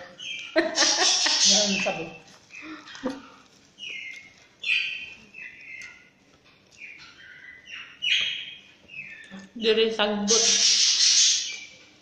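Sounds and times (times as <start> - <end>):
bird chirping: 0.0 - 3.2, 3.8 - 12.0.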